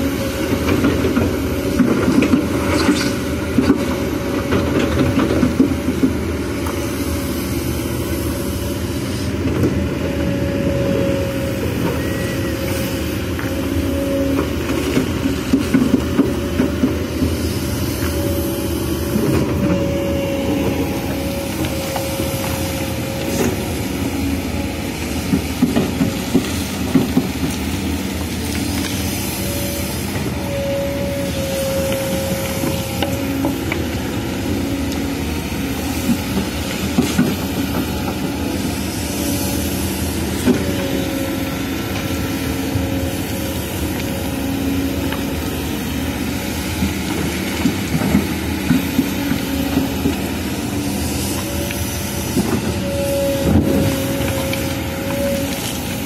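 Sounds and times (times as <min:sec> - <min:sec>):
excavator diesel engine running: 0:00.0 - 0:56.0
hydraulic whine: 0:06.5 - 0:27.4, 0:28.0 - 0:56.0.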